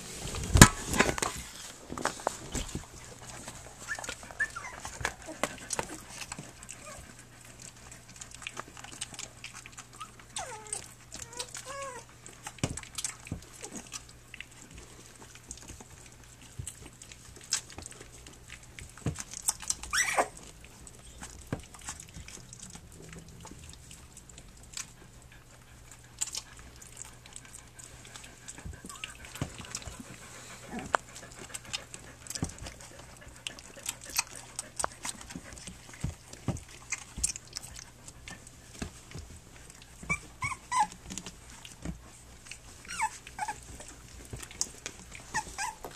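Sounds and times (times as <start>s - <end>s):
puppies nursing clicks and smacks: 0.0s - 45.9s
puppy whining: 2.5s - 15.0s, 15.6s - 45.9s.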